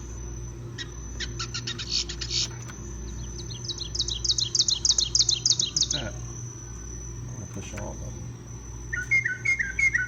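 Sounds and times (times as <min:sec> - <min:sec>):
recorded bird chirps: 0:00.0 - 0:10.0
steady low hum: 0:00.0 - 0:10.0
high downward-sweeping bird notes: 0:00.3 - 0:07.2, 0:08.0 - 0:10.0.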